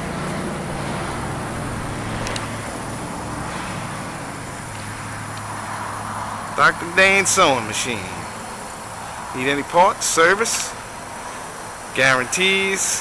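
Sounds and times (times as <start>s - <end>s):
noisy hiss: 0.0s - 13.0s
vehicle engine humming: 0.0s - 13.0s.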